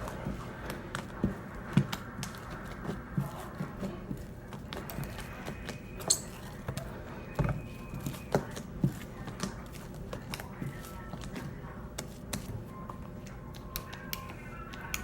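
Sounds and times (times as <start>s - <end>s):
slime being mixed: 0.0s - 15.0s.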